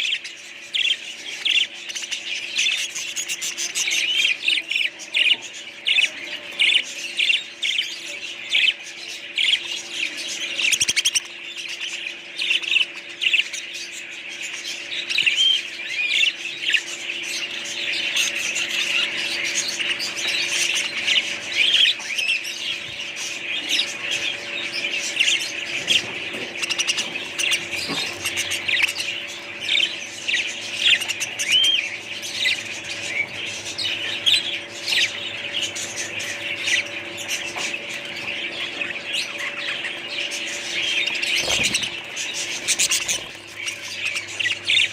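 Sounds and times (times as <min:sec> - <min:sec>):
faint steady hum: 0:00.0 - 0:44.9
small birds chirping and squawking: 0:00.0 - 0:44.9.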